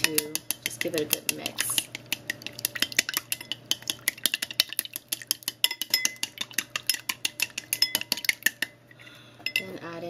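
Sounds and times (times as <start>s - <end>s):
chopsticks clicking against glass bowl: 0.0s - 8.7s.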